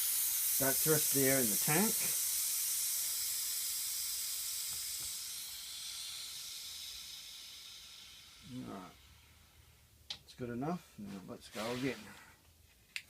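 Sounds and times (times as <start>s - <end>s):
compressed air hissing out: 0.0s - 9.9s, 11.5s - 12.3s.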